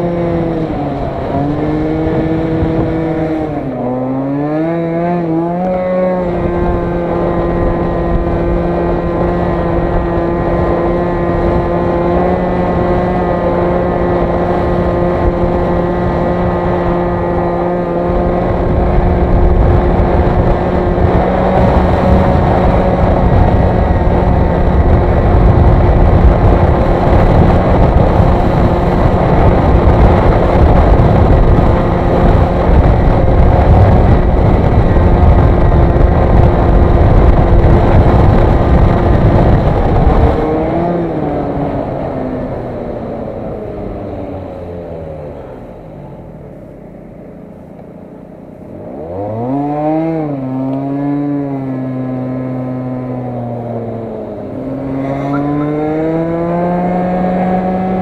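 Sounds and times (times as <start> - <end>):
wind rumble on microphone: 0.0 - 47.0, 47.6 - 58.0
scooter engine revving: 0.0 - 58.0.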